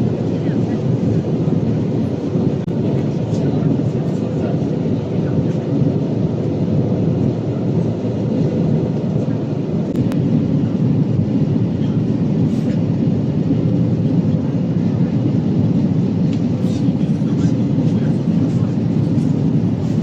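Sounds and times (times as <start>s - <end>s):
aircraft cabin engine and airflow noise: 0.0s - 20.0s.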